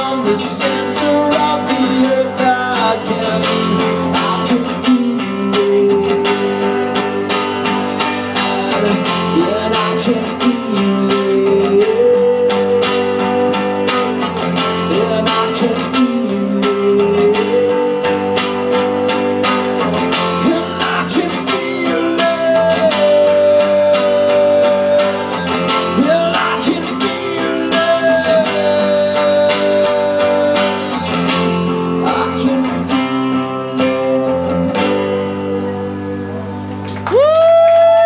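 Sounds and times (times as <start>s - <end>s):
rock music with guitars: 0.0s - 38.0s.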